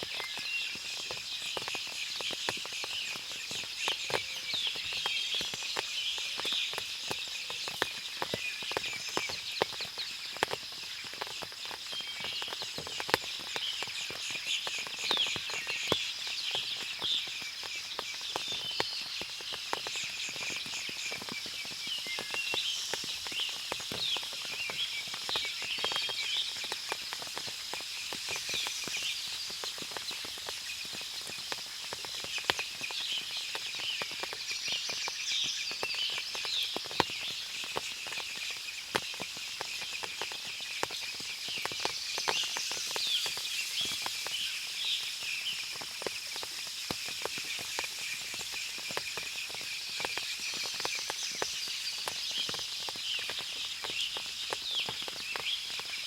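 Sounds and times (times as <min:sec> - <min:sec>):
steady high-pitched hiss: 0:00.0 - 0:56.0
water drips from foliage: 0:00.0 - 0:56.0.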